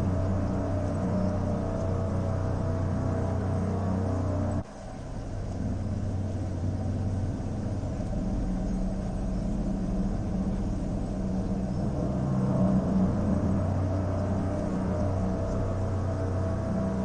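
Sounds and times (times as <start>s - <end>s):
dark ambient music drone: 0.0s - 17.0s.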